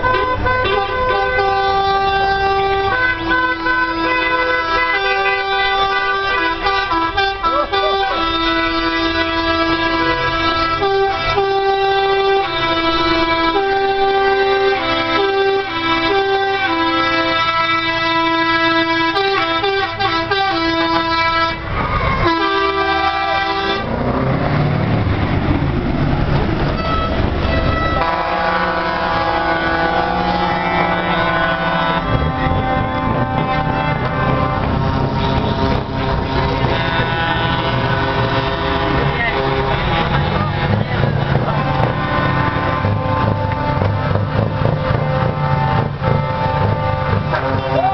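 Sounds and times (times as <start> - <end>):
musical air horns: 0.0 - 24.4, 26.6 - 47.9
diesel truck engine passing: 0.0 - 47.9.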